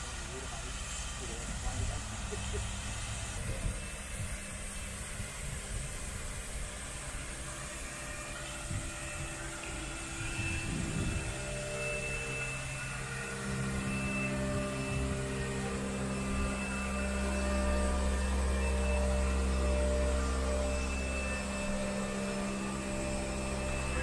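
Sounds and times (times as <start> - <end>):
low tones: 0.0 - 24.0
machine hum with held tones: 0.0 - 24.0.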